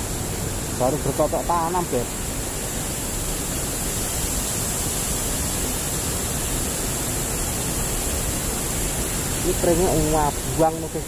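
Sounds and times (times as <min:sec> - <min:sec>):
river flowing over rocks: 0:00.0 - 0:11.0.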